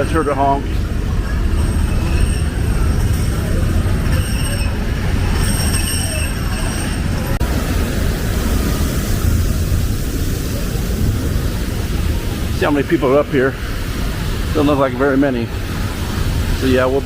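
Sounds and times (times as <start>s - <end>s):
high-pitched whine: 0.0s - 17.0s
monorail train rumbling: 0.0s - 17.0s.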